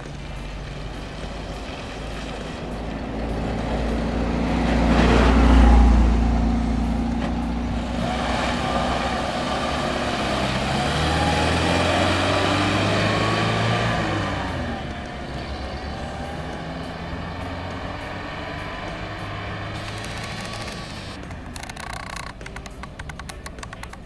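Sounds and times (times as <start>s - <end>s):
off-road vehicle engine passing: 0.0s - 21.6s.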